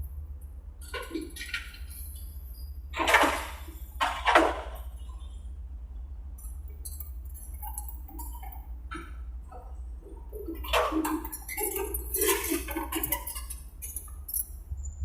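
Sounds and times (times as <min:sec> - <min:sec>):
excavator engine hum: 0:00.0 - 0:15.0.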